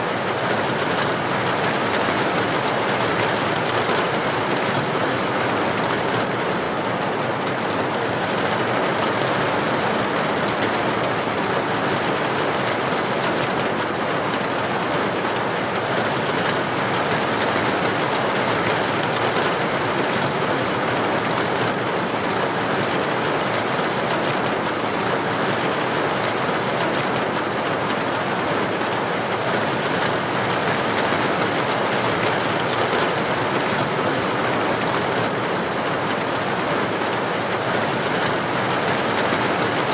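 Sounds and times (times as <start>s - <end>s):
heavy rain pouring on street: 0.0s - 39.9s.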